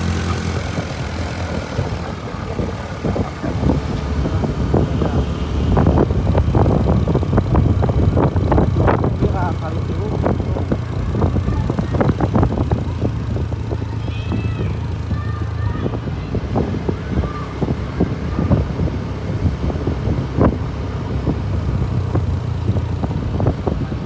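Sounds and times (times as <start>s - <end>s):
vehicle engine drone: 0.0s - 24.0s.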